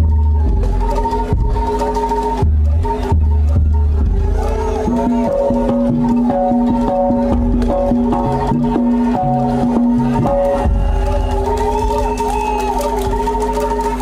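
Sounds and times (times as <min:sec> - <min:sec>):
drum strokes: 0:00.0 - 0:14.0
gamelan ensemble playing: 0:00.0 - 0:14.0.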